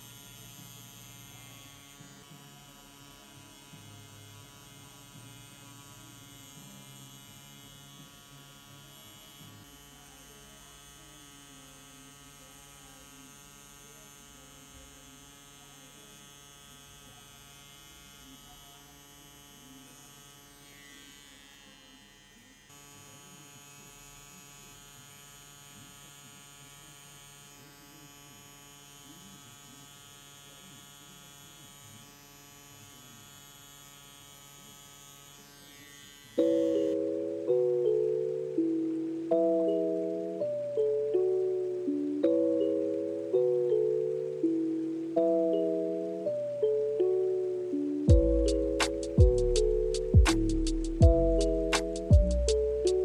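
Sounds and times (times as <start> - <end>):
tattoo machine electric buzz: 0.0 - 38.7, 48.1 - 53.0.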